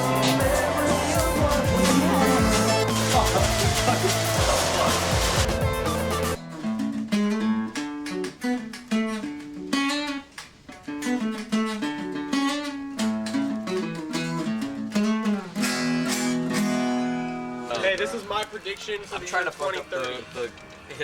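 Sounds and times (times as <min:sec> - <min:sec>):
acoustic guitar melody: 0:00.0 - 0:21.0.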